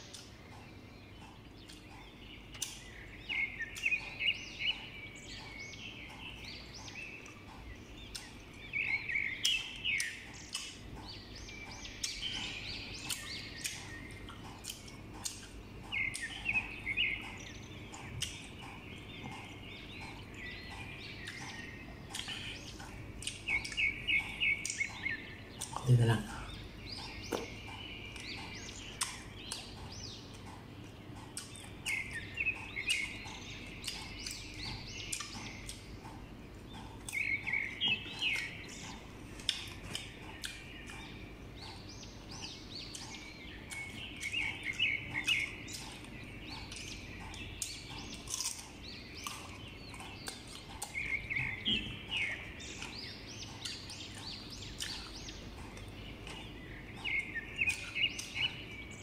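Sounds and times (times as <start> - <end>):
bird chirping: 0.0 - 59.0
crunching and chewing: 0.0 - 59.0.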